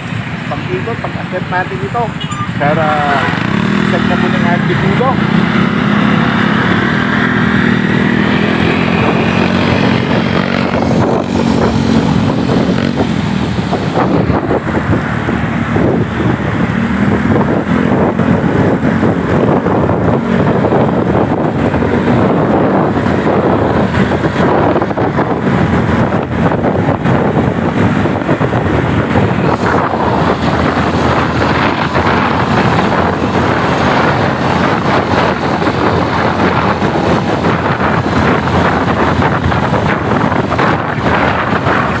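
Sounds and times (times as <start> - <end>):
wind buffeting microphone: 0.0 - 42.0
motorcycle engine running: 1.1 - 42.0.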